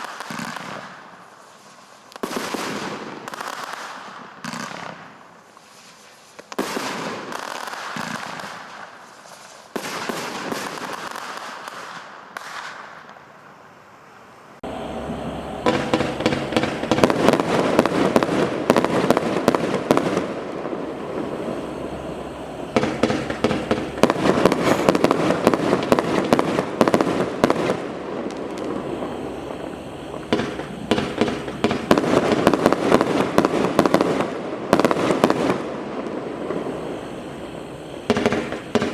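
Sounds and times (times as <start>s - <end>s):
fireworks banging and crackling: 0.0s - 13.2s, 14.7s - 38.9s.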